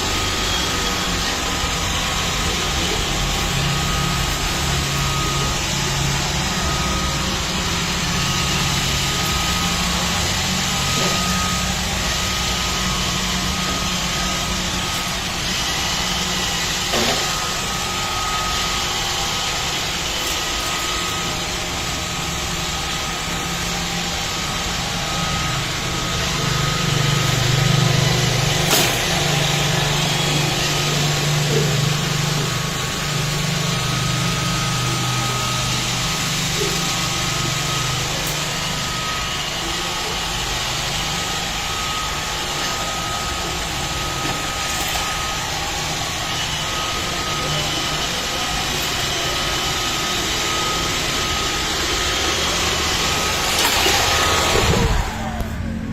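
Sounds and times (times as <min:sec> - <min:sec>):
robot vacuum motor whir: 0:00.0 - 0:55.9.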